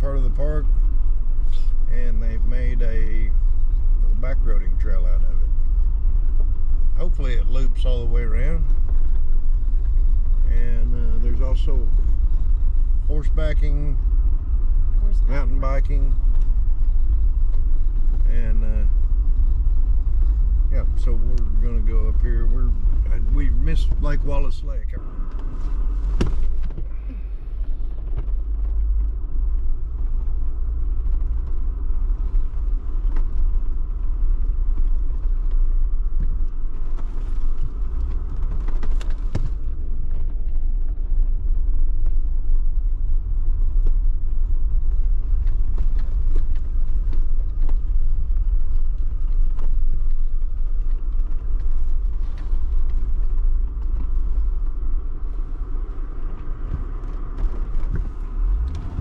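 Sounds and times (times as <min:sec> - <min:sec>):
vehicle rumbling on dirt road: 0:00.0 - 0:59.0.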